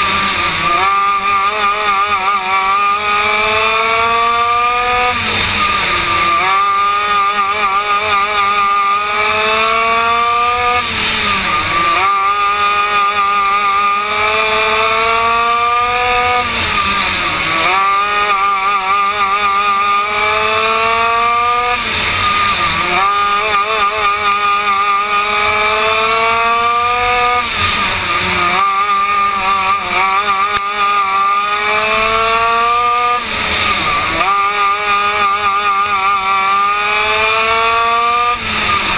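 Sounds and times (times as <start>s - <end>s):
kart engine revving: 0.0s - 38.9s
tyres on dirt: 0.0s - 38.9s.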